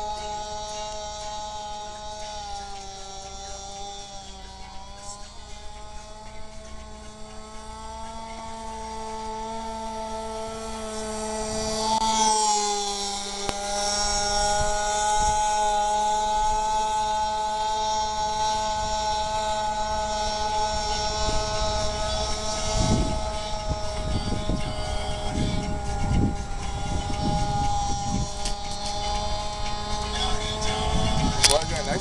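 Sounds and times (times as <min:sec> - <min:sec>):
model boat engine whining: 0:00.0 - 0:32.0.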